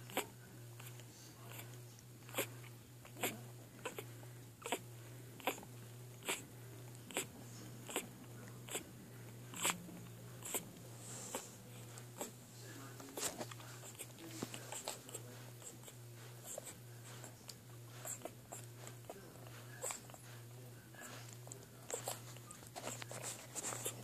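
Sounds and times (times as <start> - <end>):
puppies snuffling: 0.0 - 24.0
steady low hum: 0.0 - 24.0.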